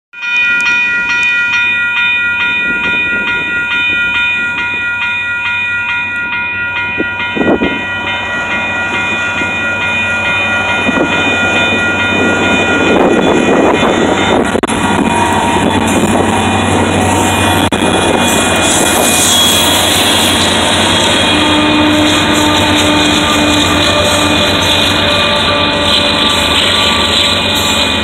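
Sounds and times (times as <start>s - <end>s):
crossing warning bell ringing: 0.1s - 28.0s
freight train rumbling: 0.2s - 28.0s.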